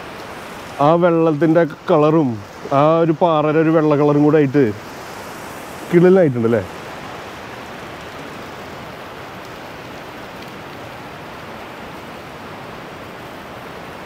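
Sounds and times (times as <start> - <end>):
river rushing over rapids: 0.0 - 14.0.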